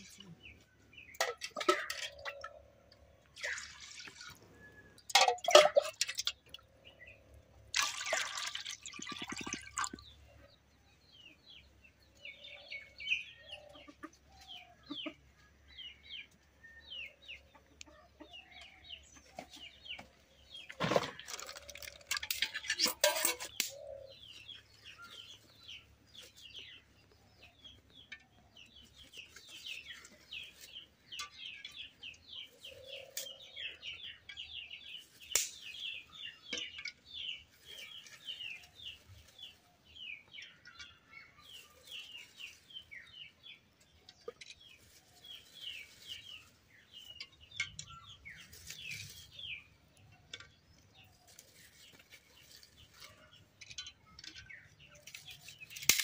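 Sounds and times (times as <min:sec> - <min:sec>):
small birds chirping: 0:05.9 - 0:56.0.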